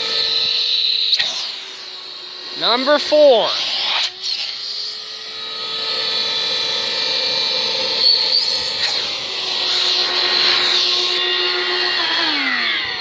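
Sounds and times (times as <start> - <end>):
shop vac motor whine: 0.0 - 13.0.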